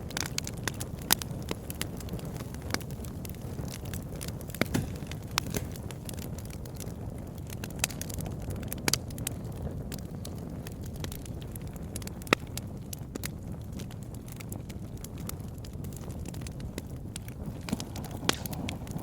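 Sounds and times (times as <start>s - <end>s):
burning wood crackling: 0.0s - 19.0s
campfire flames rumbling: 0.0s - 19.0s.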